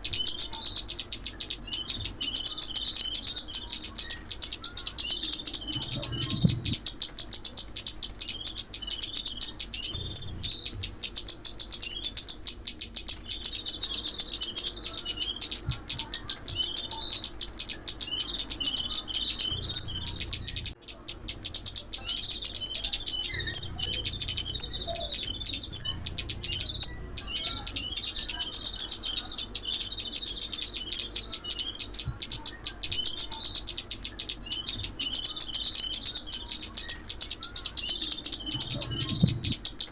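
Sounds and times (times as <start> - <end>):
bird chirps and twitters: 0.0 - 39.9
thin steady high tone: 0.0 - 39.9.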